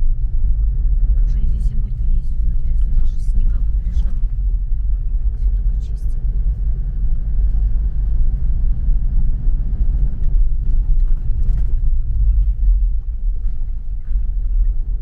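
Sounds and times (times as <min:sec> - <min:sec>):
car driving on dirt road: 0:00.0 - 0:15.0.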